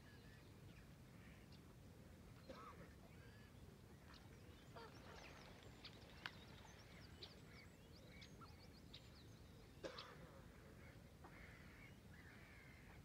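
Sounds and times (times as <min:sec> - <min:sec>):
faint birdsong and chirps: 0:00.0 - 0:13.0.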